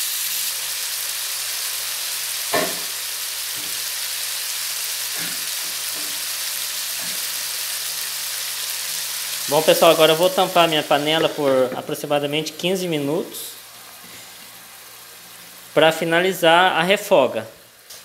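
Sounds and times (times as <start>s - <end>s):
food sizzling in oil: 0.0s - 17.0s, 17.6s - 18.0s.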